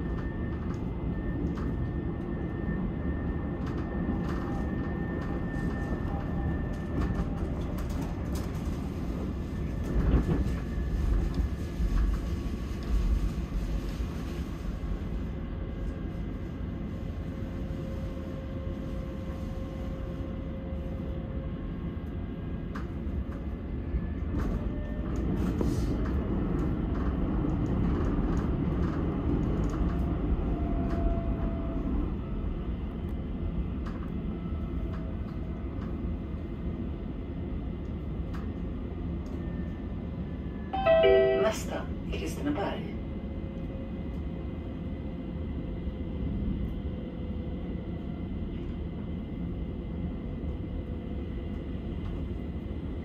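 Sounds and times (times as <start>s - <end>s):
metro train rumbling on tracks: 0.0s - 53.0s.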